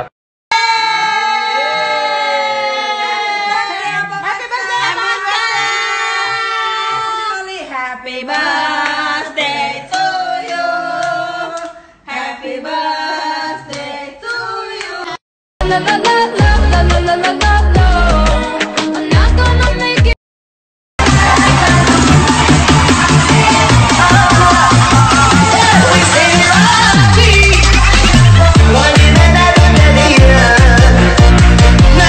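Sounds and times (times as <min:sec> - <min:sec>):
voices singing with instrumental backing: 0:04.4 - 0:19.8, 0:21.0 - 0:32.0.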